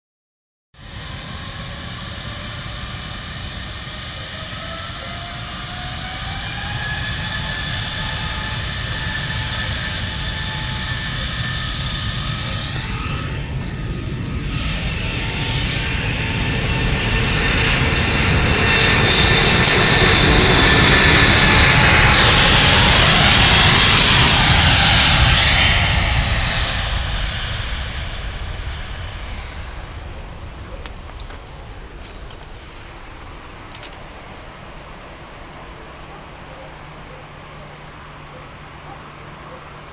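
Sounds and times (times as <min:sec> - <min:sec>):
distant jet engines whining: 0:00.8 - 0:39.9.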